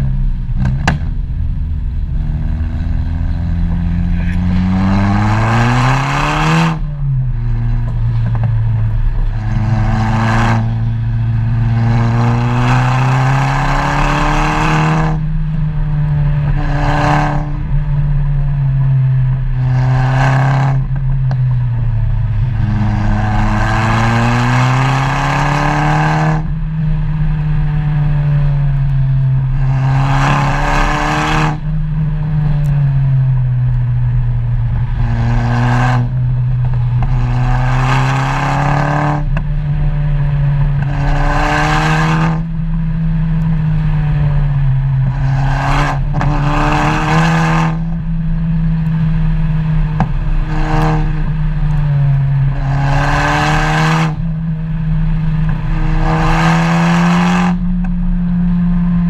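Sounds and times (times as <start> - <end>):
car engine and exhaust: 0.0 - 59.0
rush of acceleration noise: 0.0 - 59.0.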